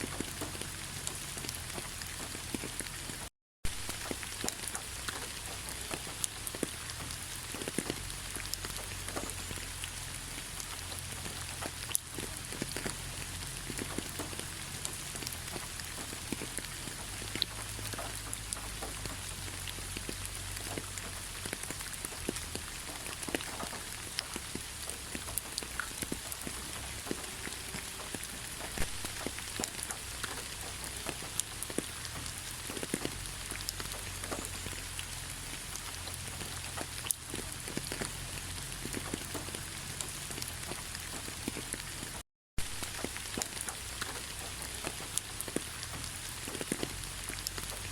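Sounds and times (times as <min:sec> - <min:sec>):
raindrops ticking on a surface: 0:00.0 - 0:47.9
steady rain falling: 0:00.0 - 0:47.9.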